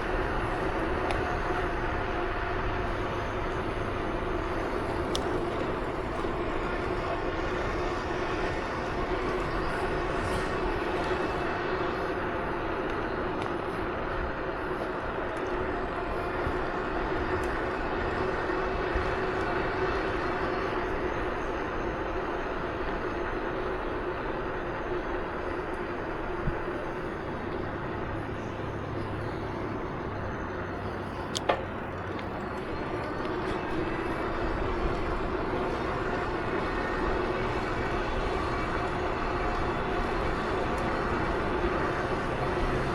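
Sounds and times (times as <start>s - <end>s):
vehicle engine drone: 0.0s - 42.9s
wind and road noise: 0.0s - 42.9s.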